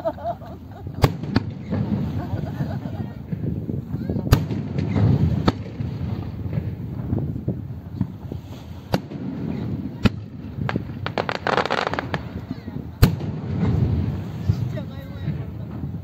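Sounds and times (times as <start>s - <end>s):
fireworks bangs: 0.5s - 16.0s.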